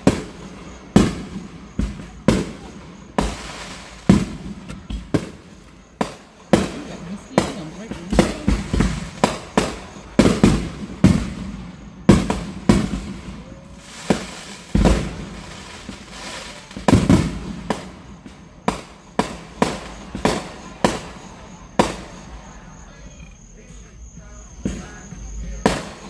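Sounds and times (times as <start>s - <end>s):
deep firework boom: 0.0s - 23.2s
fireworks bangs: 0.0s - 26.0s.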